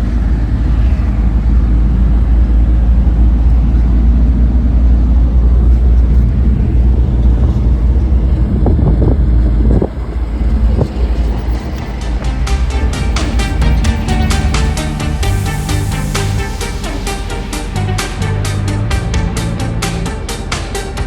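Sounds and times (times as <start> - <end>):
wind on microphone: 0.0 - 17.0
vehicle engine and road rumble: 0.0 - 21.0.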